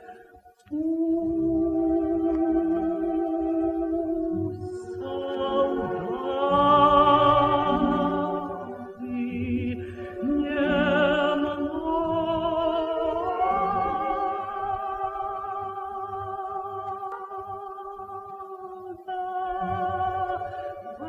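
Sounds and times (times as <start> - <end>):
low musical accompaniment: 0.0 - 21.0
voices singing with vibrato: 0.0 - 21.0.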